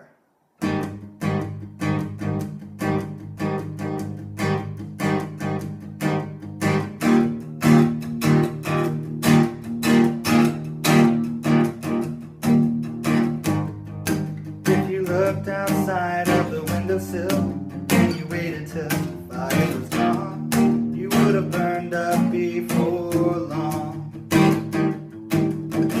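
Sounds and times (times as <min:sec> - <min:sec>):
acoustic guitar strumming: 0:00.6 - 0:26.0.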